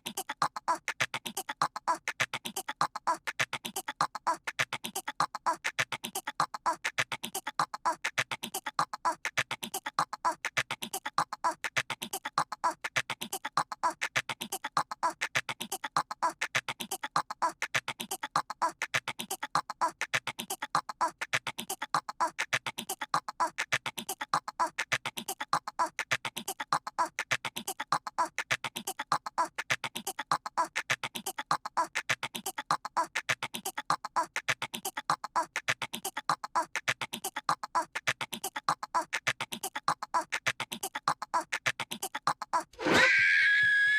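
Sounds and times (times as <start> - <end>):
child imitating squirrel chatter: 0.0 - 42.8.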